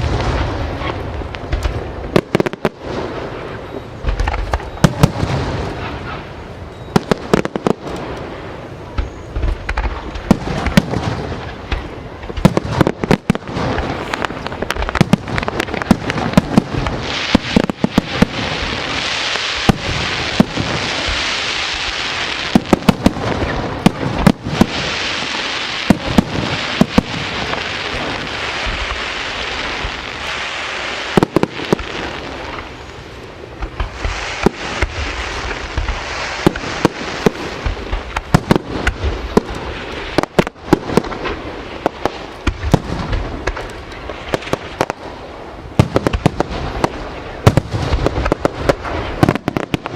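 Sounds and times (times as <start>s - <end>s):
fireworks bangs: 0.0s - 49.9s
steady hiss: 0.0s - 49.9s.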